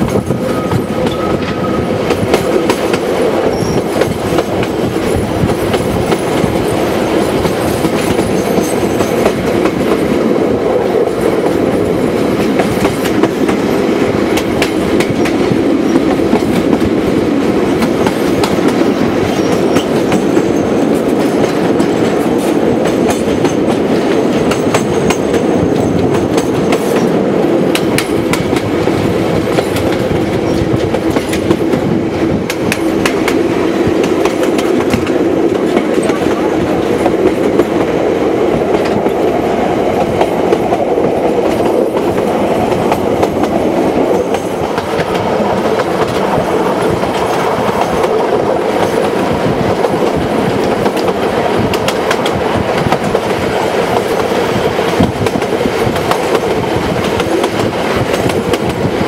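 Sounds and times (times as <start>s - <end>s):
rail joint clicks: 0.0s - 59.0s
train wheels rumbling on rail: 0.0s - 59.0s.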